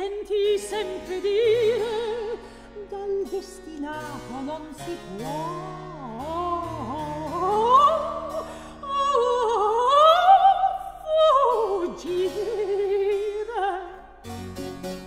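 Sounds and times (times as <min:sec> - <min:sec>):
woman singing opera: 0:00.0 - 0:14.2.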